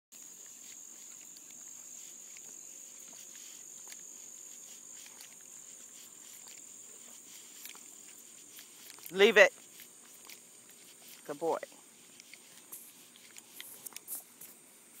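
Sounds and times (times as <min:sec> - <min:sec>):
insect chorus: 0:00.1 - 0:15.0.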